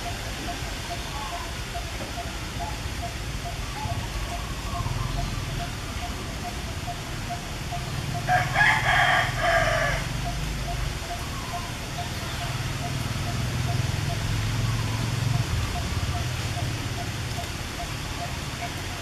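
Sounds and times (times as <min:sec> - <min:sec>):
loud animal call: 0:00.0 - 0:19.0.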